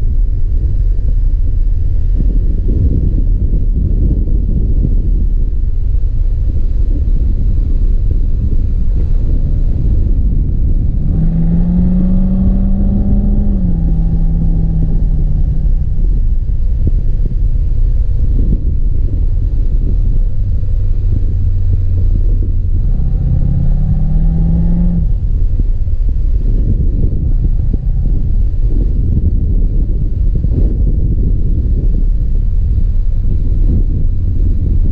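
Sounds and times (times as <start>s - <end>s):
car engine revving: 7.0s - 34.9s.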